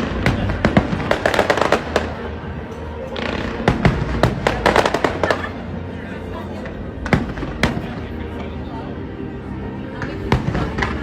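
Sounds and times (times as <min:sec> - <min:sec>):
fireworks bangs and crackles: 0:00.0 - 0:05.9, 0:06.6 - 0:08.7, 0:10.0 - 0:11.0.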